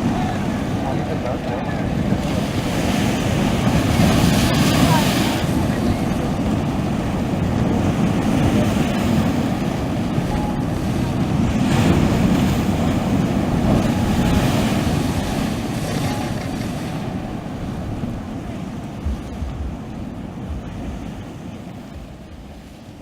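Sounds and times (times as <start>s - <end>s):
waves washing on shore: 0.0s - 23.0s
wind buffeting microphone: 0.0s - 23.0s.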